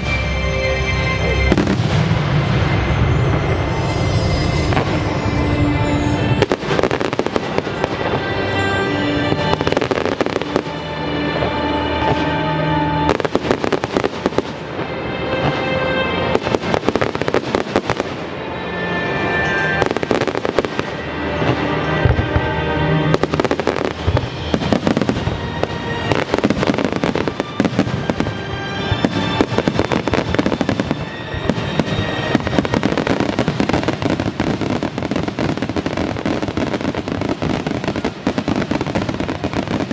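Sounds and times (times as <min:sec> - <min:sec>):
fireworks bangs and crackles: 0:00.0 - 0:00.5, 0:01.5 - 0:39.9
music soundtrack: 0:00.0 - 0:39.9.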